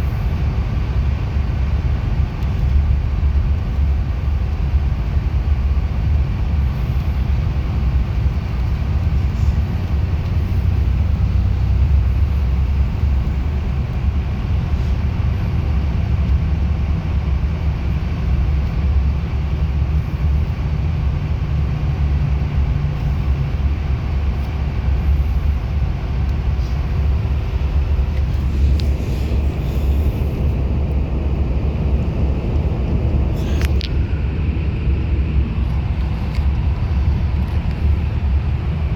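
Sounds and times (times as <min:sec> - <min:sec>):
bus engine hum: 0:00.0 - 0:38.9
bus road noise rumble: 0:00.0 - 0:38.9.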